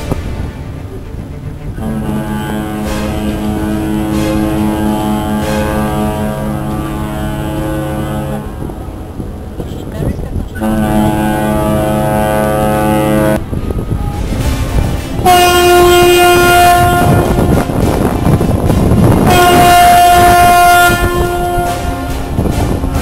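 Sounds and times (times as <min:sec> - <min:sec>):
higher-pitched ship horn blasts: 0:00.0 - 0:09.5, 0:10.6 - 0:23.0
deep ship horn blast: 0:00.0 - 0:09.6, 0:10.4 - 0:23.0
loud rushing noise: 0:00.0 - 0:12.6, 0:13.3 - 0:23.0.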